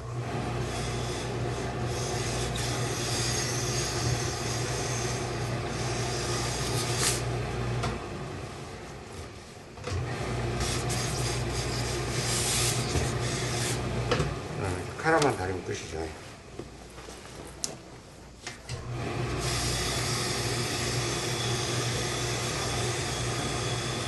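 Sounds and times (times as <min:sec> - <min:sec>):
pressing equipment hum and hiss: 0:00.0 - 0:24.0.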